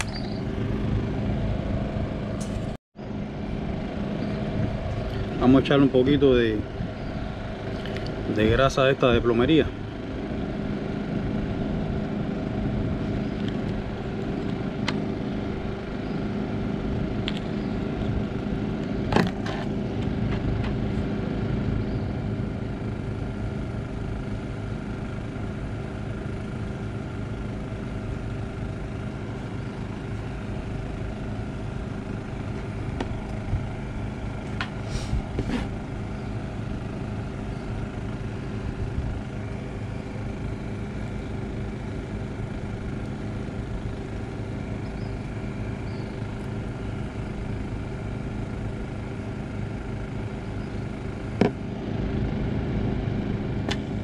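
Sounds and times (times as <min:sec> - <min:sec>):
engine-like hum: 0:00.0 - 0:54.0.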